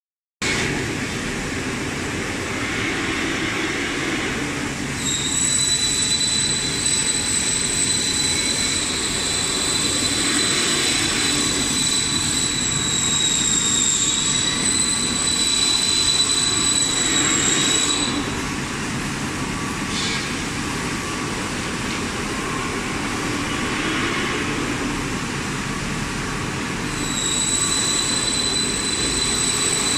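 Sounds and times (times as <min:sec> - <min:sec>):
high steady whine: 0:00.4 - 0:29.9
production machinery running: 0:00.4 - 0:29.9.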